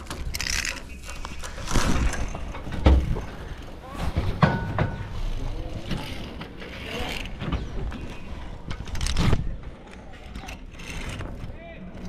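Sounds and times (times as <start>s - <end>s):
zip-line gear clanking on cable: 0.0s - 12.0s.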